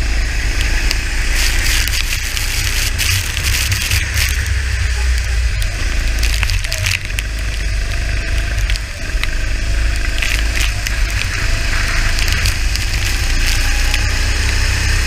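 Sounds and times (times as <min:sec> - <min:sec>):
kart engine: 0:00.0 - 0:15.0
wind and engine rumble: 0:00.0 - 0:15.0
water spray hitting camera: 0:00.6 - 0:14.7.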